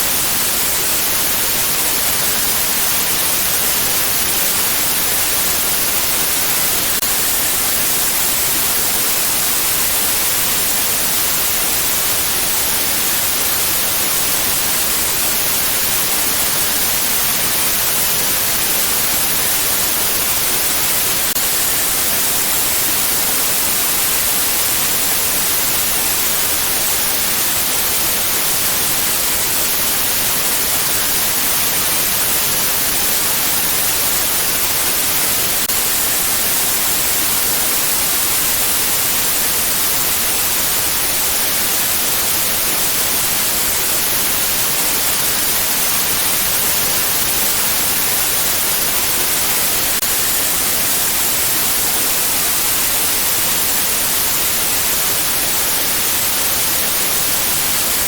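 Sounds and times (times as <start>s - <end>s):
steady white noise: 0.0s - 58.0s.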